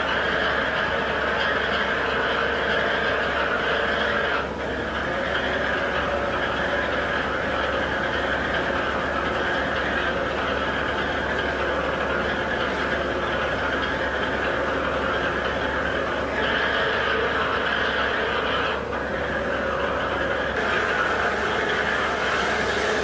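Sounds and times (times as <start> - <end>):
heavy machinery engine running: 3.2 - 23.0.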